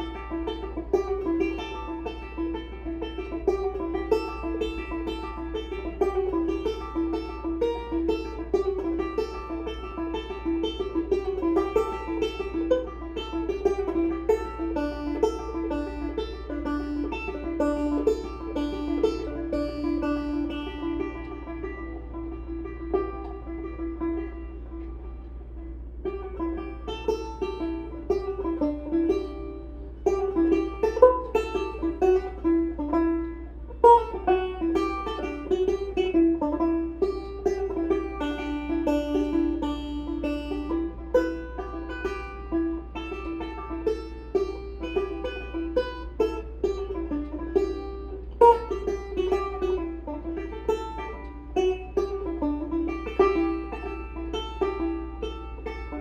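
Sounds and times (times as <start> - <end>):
constant low hum: 0.0 - 56.0
plucked string instrument picking: 0.0 - 56.0.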